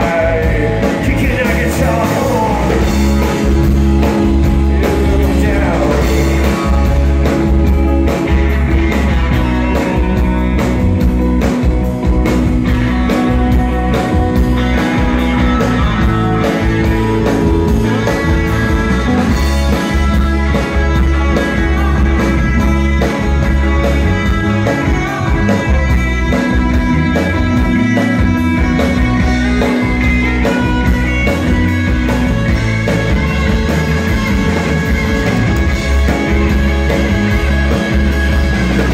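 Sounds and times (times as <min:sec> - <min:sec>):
rock band playing loud: 0:00.0 - 0:38.9.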